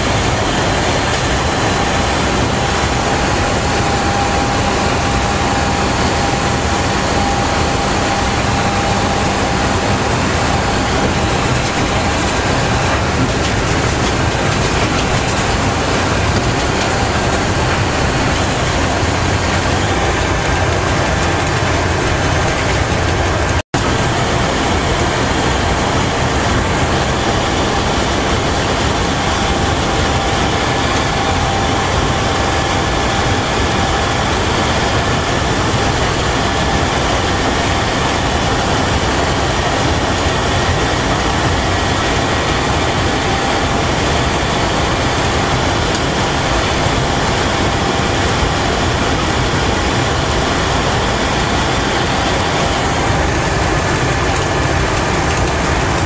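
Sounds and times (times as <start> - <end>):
locomotive running din: 0.0 - 56.0.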